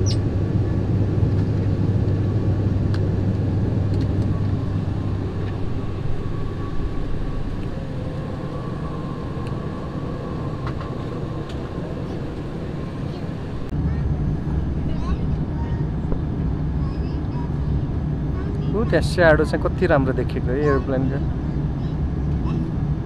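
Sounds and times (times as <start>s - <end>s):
turboprop cabin drone: 0.0s - 23.0s.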